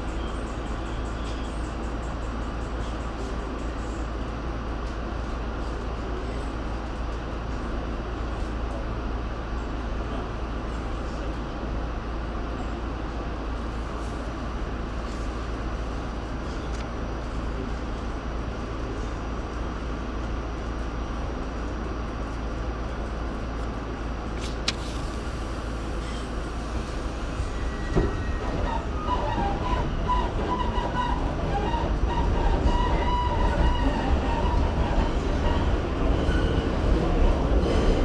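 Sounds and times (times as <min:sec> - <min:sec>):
subway train rumbling: 0:00.0 - 0:38.0.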